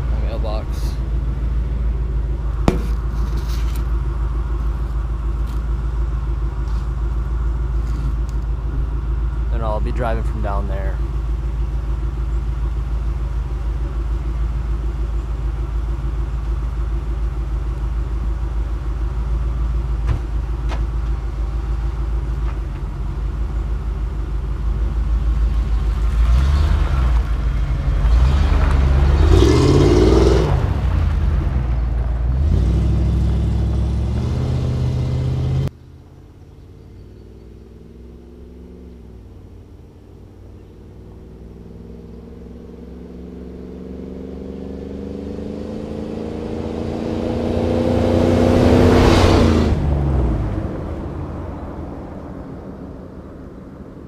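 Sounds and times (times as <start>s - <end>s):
pickup truck idling and revving: 0.0s - 54.0s.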